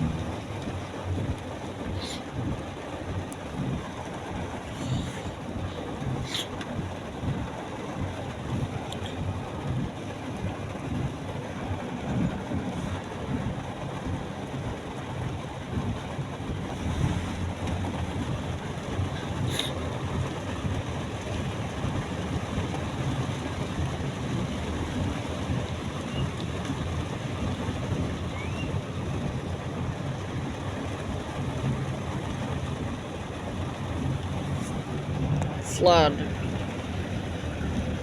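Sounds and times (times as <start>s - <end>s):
low road rumble: 0.0s - 38.0s
rain and wet tyres hiss: 0.0s - 38.0s.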